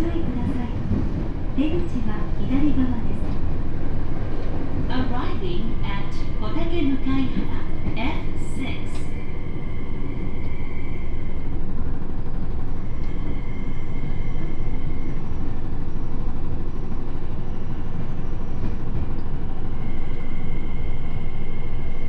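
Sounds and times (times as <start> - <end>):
train wheels rumbling on rail: 0.0 - 22.0
high whine of traction motors: 3.5 - 22.0.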